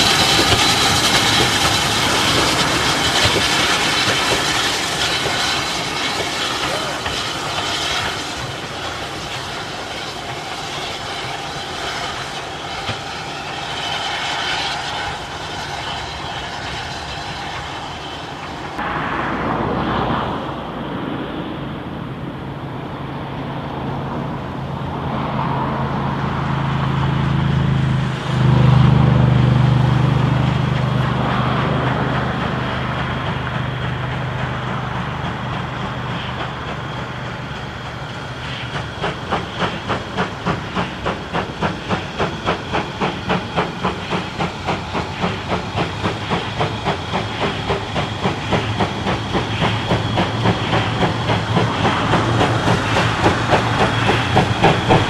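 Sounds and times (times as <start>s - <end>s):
train low drone: 0.0s - 55.0s
train rushing noise: 0.0s - 55.0s.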